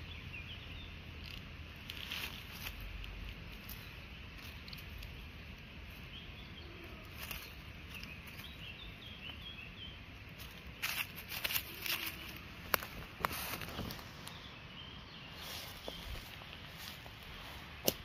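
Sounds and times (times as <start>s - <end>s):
low outdoor rumble: 0.0s - 18.0s
small birds chirping: 0.0s - 18.0s
dry leaves rustling and crackling: 0.5s - 14.4s, 15.3s - 18.0s.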